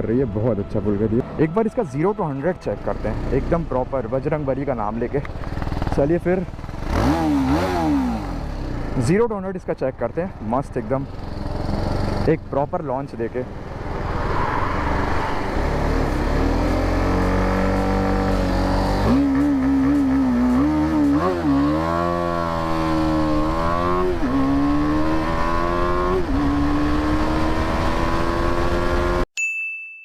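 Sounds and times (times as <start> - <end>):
motorcycle engine accelerating: 2.3 - 9.0, 10.3 - 29.2.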